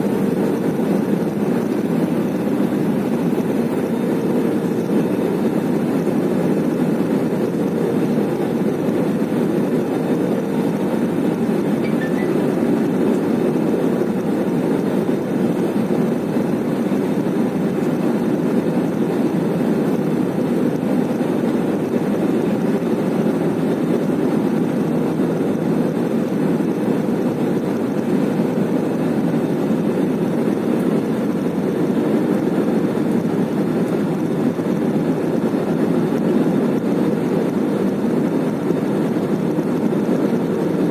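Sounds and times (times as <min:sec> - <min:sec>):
faint steady whine: 0:00.0 - 0:40.9
jet engine and airflow rumble: 0:00.0 - 0:40.9.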